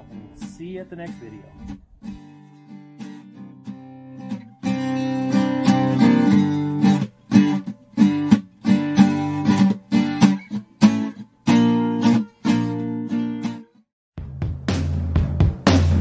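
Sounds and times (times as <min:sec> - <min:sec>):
strummed acoustic guitar: 0:00.0 - 0:13.8.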